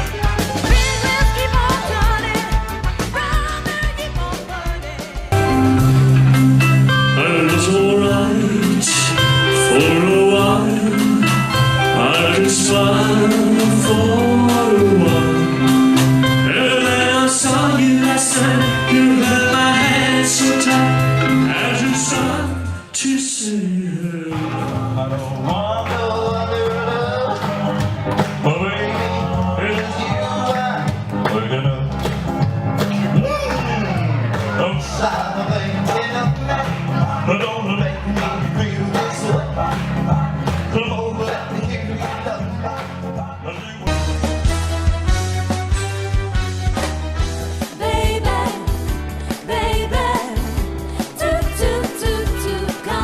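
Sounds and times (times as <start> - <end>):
song with singer and band: 0.0 - 53.0.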